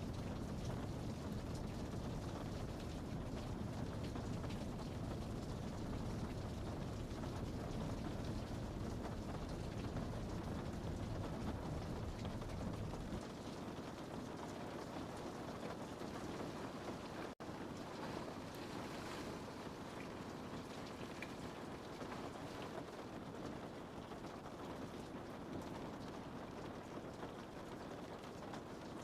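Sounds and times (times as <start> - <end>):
rain pattering on a window: 0.0 - 29.0.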